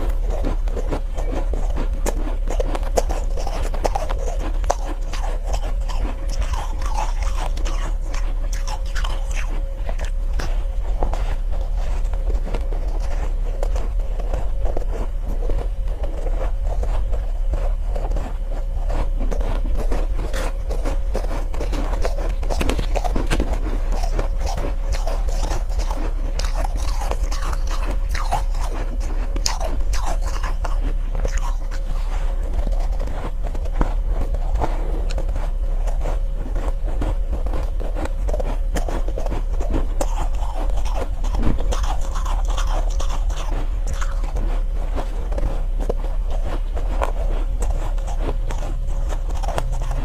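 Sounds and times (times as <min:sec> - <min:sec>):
crunchy ice chewing: 0:00.0 - 0:50.0
steady low hum: 0:00.0 - 0:50.0.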